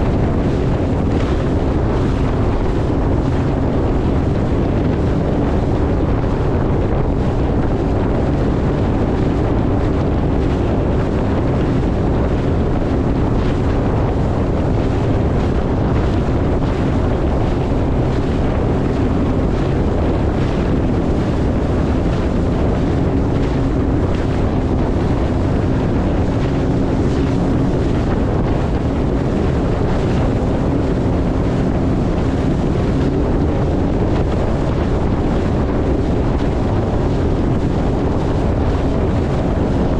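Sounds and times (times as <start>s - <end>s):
jet ski engine humming: 0.0s - 39.9s
wind rushing over microphone: 0.0s - 39.9s.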